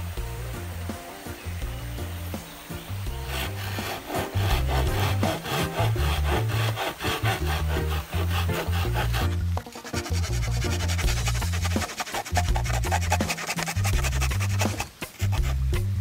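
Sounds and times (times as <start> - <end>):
saw cutting bamboo: 1.0 - 16.0.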